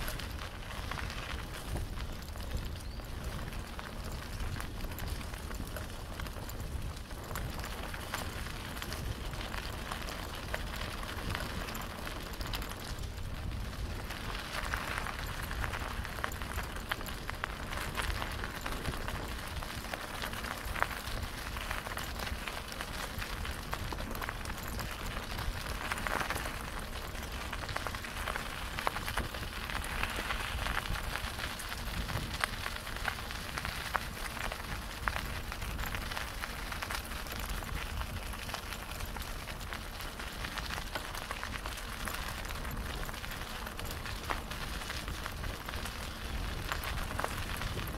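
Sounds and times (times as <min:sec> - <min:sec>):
bicycle tyres on gravel: 0:00.0 - 0:47.9.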